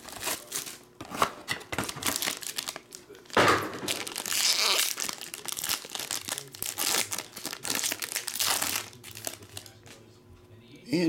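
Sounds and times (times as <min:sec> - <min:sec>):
foil wrapper tearing and crinkling: 0:00.0 - 0:09.9.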